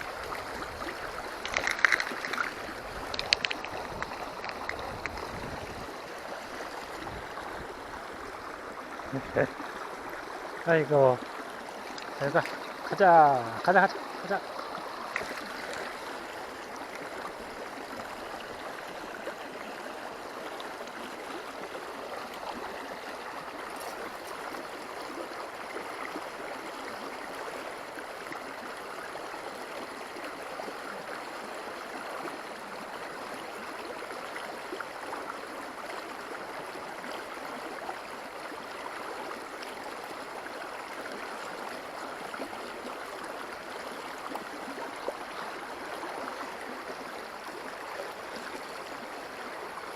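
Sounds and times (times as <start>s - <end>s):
river water flowing: 0.0s - 49.9s.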